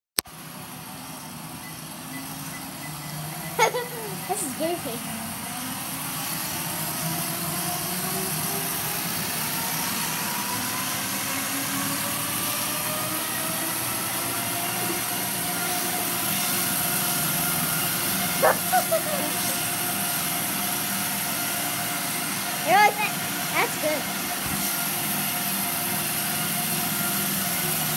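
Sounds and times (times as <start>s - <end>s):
treadmill motor whine: 0.3s - 27.9s
treadmill belt hissing: 0.4s - 27.9s.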